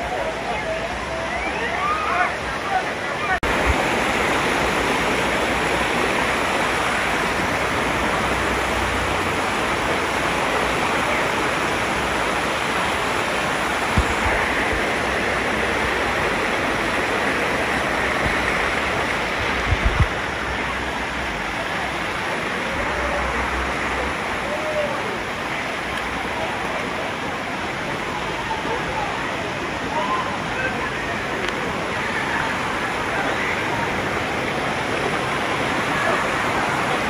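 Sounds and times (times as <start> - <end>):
waterfall splashing over rocks: 0.0 - 37.0.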